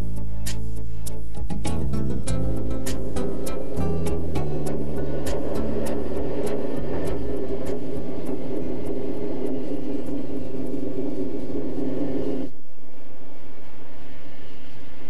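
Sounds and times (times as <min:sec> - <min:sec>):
electric train rumbling on track: 0:00.0 - 0:15.0.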